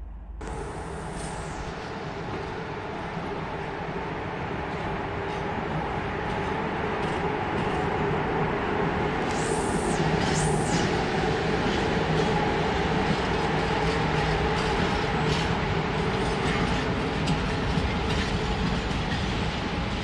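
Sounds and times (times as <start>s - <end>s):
freight train wheels rumbling on rail: 0.4s - 9.3s, 10.8s - 20.0s.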